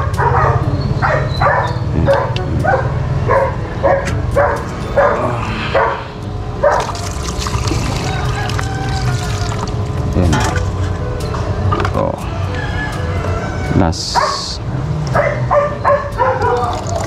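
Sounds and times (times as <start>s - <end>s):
dogs barking: 0.0s - 9.6s, 12.3s - 17.0s.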